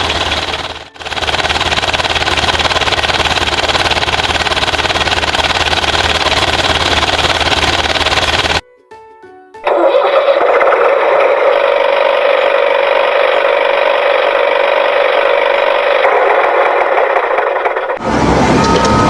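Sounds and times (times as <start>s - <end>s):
small motor humming and rattling: 0.0s - 8.6s, 10.0s - 19.0s.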